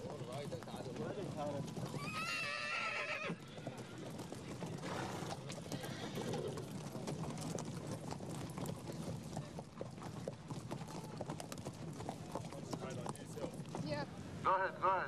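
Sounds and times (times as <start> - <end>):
horses' hooves clopping: 0.0 - 14.7.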